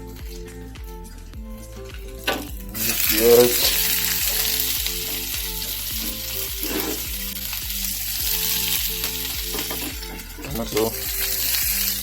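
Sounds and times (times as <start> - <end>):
onion sizzling in frying pan: 2.2 - 12.0.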